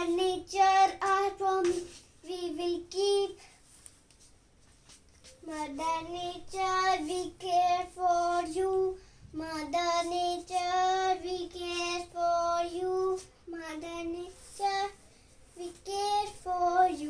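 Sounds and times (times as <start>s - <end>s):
child singing: 0.0s - 3.4s, 5.4s - 17.0s.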